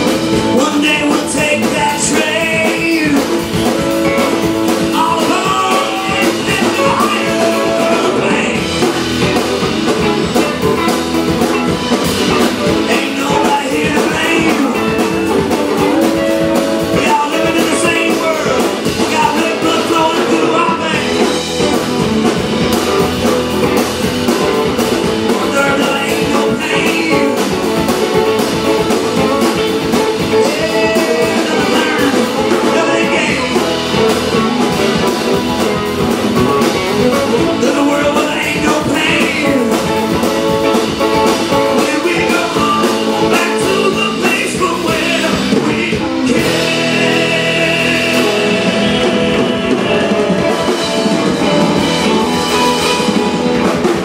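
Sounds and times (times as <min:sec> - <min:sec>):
guitar-driven rock and roll song: 0:00.0 - 0:54.0.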